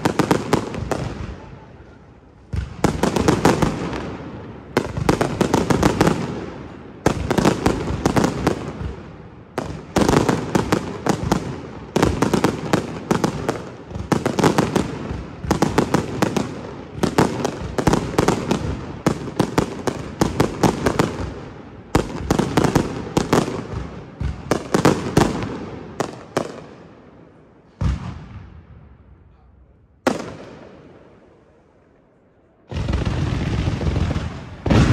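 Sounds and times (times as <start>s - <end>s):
fireworks crackling bangs: 0.0s - 28.7s, 32.6s - 34.9s.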